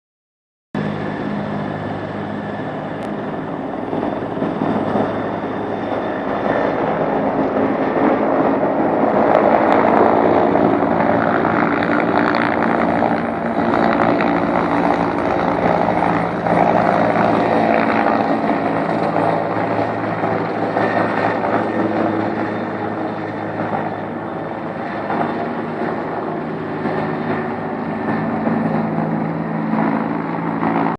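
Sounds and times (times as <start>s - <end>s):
helicopter rotor and engine: 0.8s - 30.9s.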